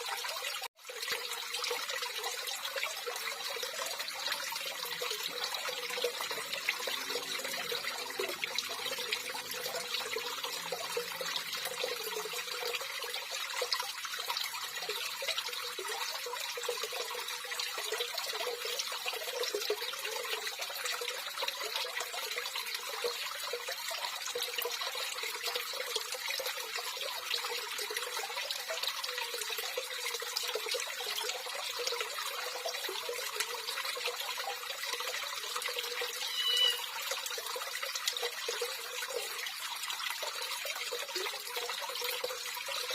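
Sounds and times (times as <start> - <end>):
running water: 0.0 - 42.9.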